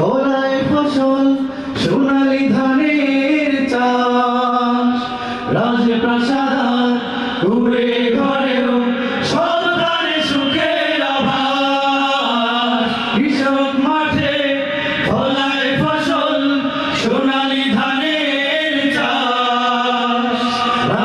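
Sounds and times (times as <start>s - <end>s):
men singing devotional song: 0.0s - 21.0s.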